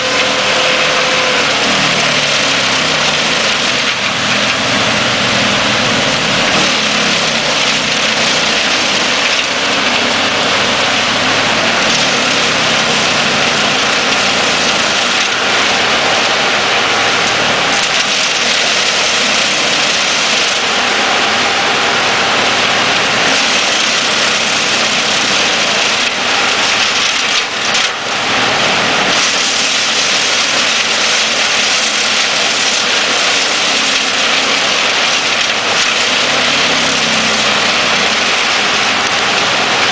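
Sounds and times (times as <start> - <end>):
wood chipper and machines running: 0.0 - 39.9.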